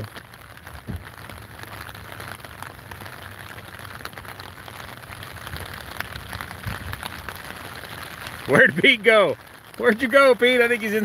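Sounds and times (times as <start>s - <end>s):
rain pattering on an umbrella: 0.0s - 11.0s.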